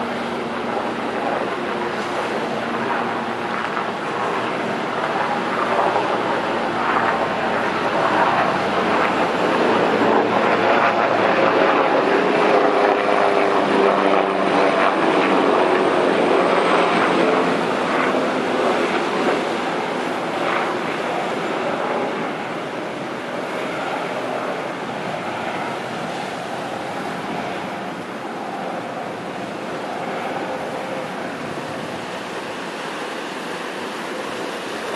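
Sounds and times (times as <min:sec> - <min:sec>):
hydrofoil ferry jet-like rush: 0:00.0 - 0:34.9.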